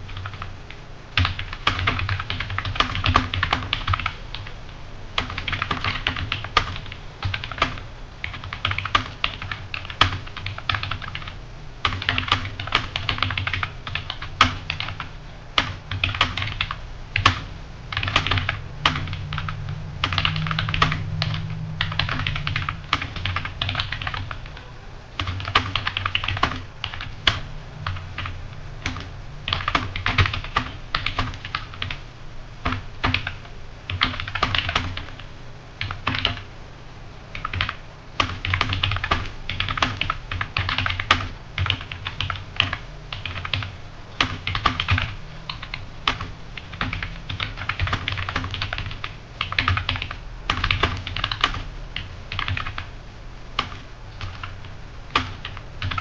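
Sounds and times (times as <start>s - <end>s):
computer keyboard typing: 0.0s - 0.5s, 1.2s - 4.6s, 5.2s - 24.6s, 25.2s - 32.0s, 32.6s - 36.4s, 37.3s - 52.9s, 53.6s - 56.0s.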